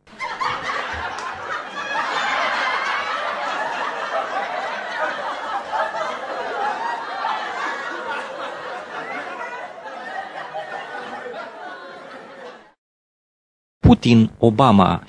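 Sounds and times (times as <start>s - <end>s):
laugh track crowd laughing: 0.0s - 12.8s.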